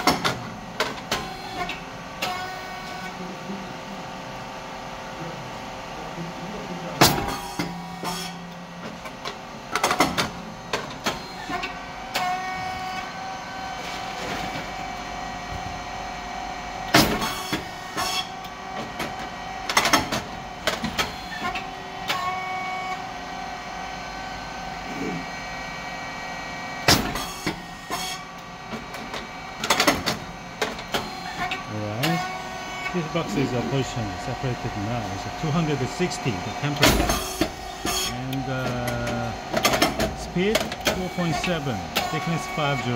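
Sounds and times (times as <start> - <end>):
machine motor hum: 0.0 - 42.9.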